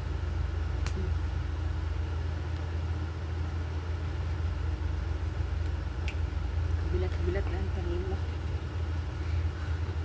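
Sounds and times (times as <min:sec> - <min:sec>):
low motor-like hum: 0:00.0 - 0:10.0.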